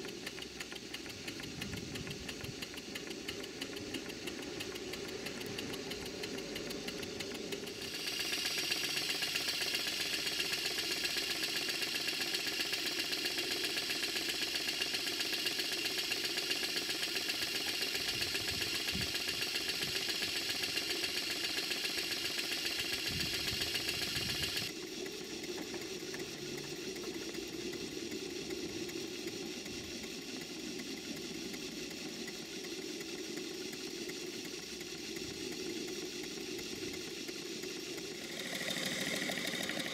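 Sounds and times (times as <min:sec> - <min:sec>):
steam engine chuffing: 0:00.0 - 0:39.9
steam hissing: 0:00.0 - 0:39.9.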